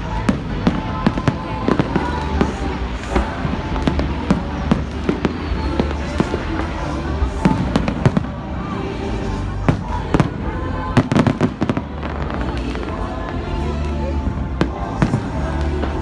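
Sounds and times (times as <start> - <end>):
background music: 0.0 - 16.0
fireworks bangs and cracks: 0.0 - 16.0.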